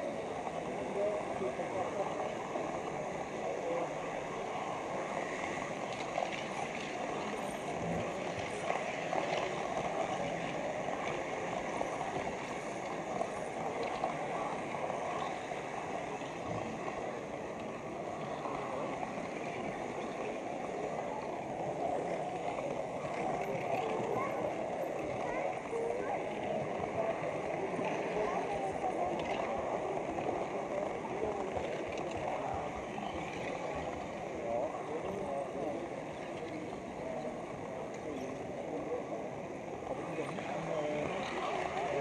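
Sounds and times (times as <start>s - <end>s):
crowd chatter in a hall: 0.0s - 42.0s.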